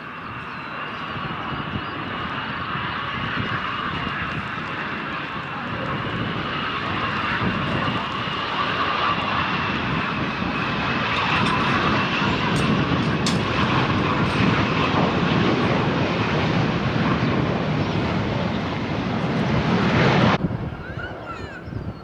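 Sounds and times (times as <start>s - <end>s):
jet plane passing: 0.0s - 22.0s.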